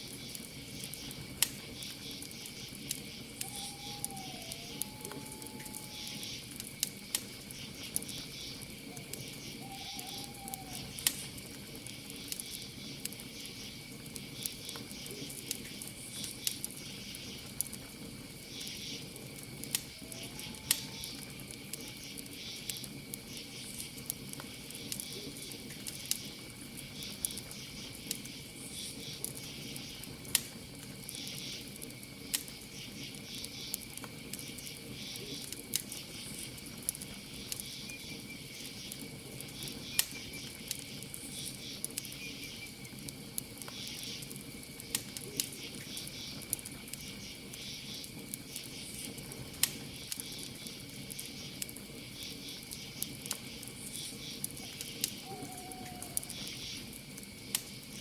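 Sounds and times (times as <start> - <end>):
campfire crackling and popping: 0.0 - 58.0
crickets chirping: 0.0 - 58.0.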